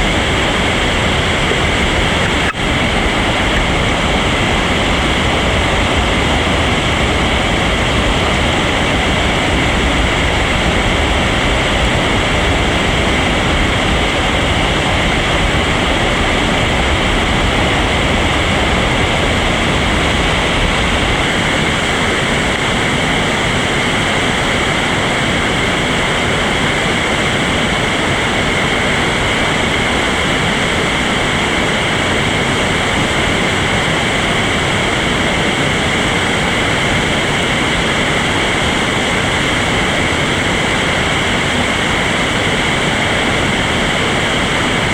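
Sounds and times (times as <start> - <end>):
whitewater rushing: 0.0 - 44.9.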